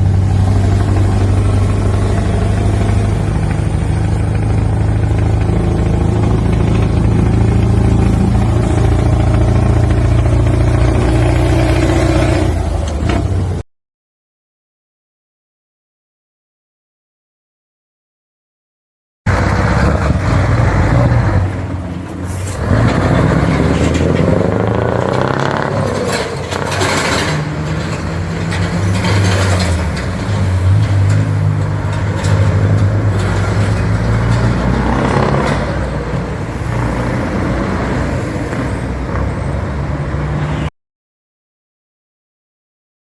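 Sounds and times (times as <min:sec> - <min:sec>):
diesel truck engine revving: 0:00.0 - 0:13.6, 0:19.3 - 0:40.4.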